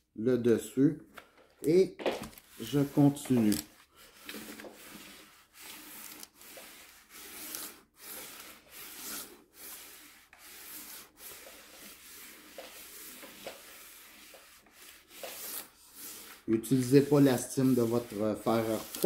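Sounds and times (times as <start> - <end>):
iron rubbing on paper: 2.4 - 19.0.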